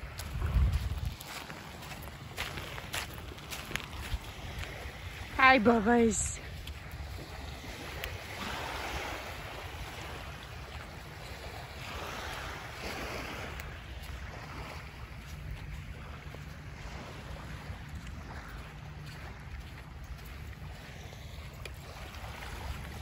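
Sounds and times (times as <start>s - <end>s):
small waves washing on shore: 0.0s - 23.0s
wind rumbling on microphone: 0.0s - 23.0s.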